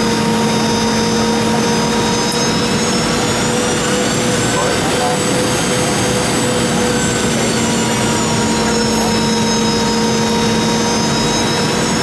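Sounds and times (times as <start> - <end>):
jet engines droning: 0.0 - 12.0.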